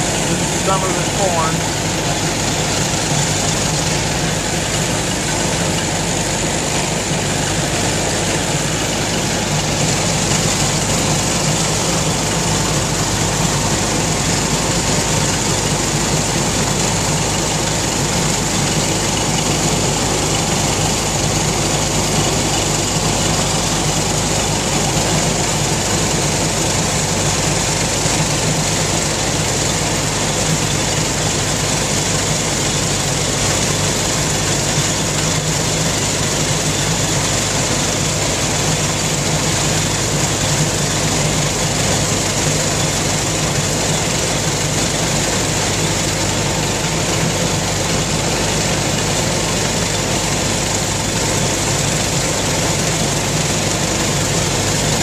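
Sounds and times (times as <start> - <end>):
corn picker running: 0.0 - 55.0
tractor engine running: 0.0 - 55.0.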